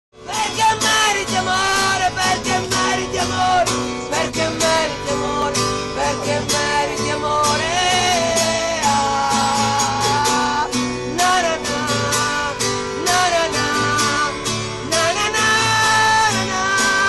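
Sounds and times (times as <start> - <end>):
acoustic guitar strumming: 0.2 - 17.0
man singing: 0.2 - 17.0.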